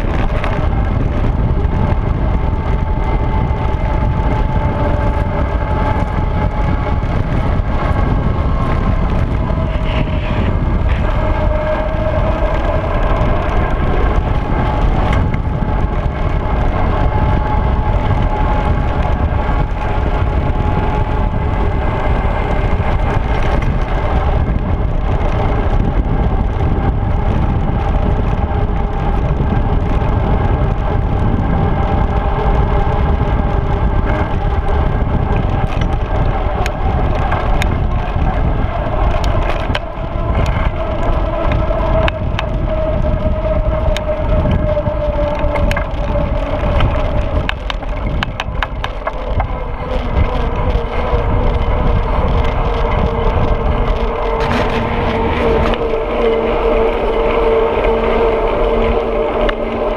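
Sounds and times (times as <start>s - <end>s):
bike tyres on asphalt: 0.0s - 59.9s
faint whining tones: 0.0s - 59.9s
wind rush on microphone: 0.0s - 59.9s.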